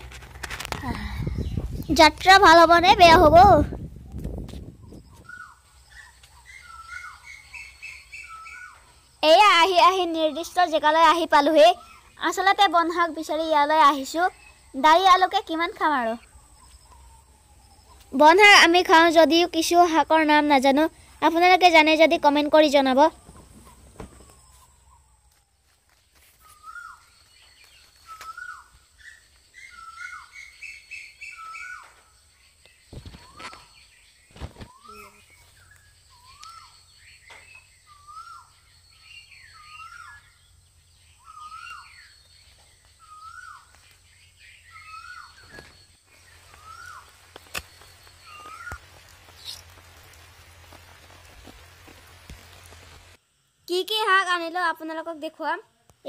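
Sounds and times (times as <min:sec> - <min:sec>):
bird calling: 0:04.0 - 0:21.9, 0:23.0 - 0:53.2.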